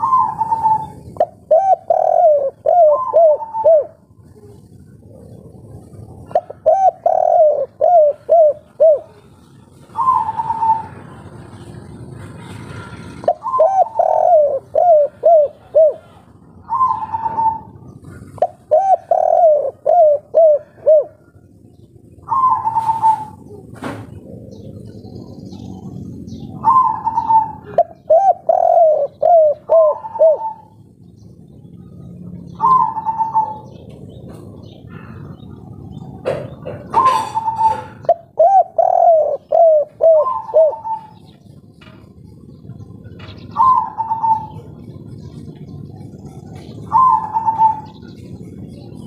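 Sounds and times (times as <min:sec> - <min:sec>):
dove cooing: 0:00.0 - 0:49.0.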